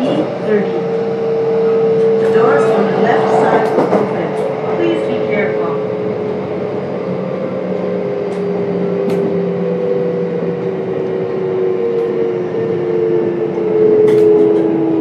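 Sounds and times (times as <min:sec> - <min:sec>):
electric train motors humming: 0:00.0 - 0:15.0
train running gear rumbling: 0:00.0 - 0:15.0.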